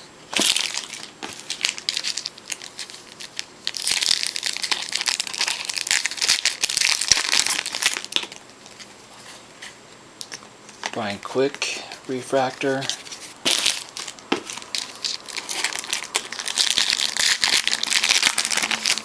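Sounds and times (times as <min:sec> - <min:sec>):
foil wrapper tearing and crinkling: 0:00.3 - 0:09.4, 0:12.4 - 0:19.0
cards rustling and clicking: 0:00.3 - 0:19.0.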